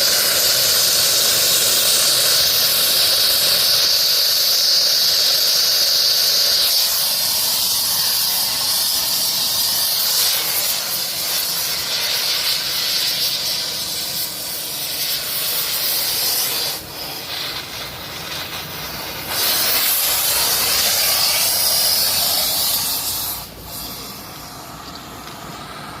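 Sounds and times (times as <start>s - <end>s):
welding gear hissing: 0.0s - 26.0s.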